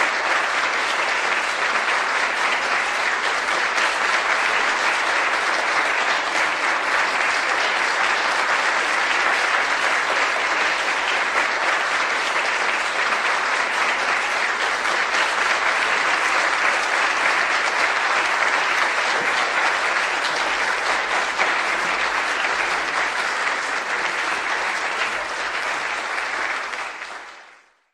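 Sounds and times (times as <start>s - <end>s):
crowd applauding: 0.0s - 27.9s.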